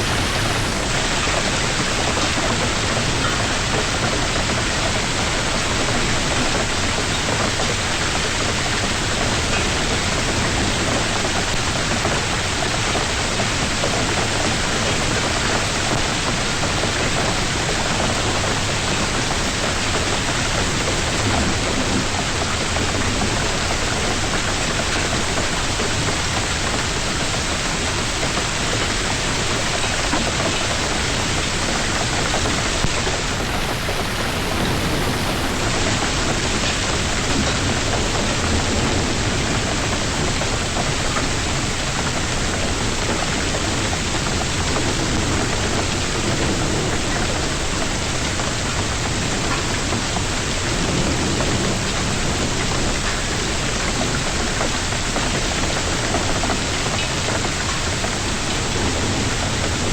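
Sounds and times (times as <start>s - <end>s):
hail and heavy rain: 0.0s - 59.9s.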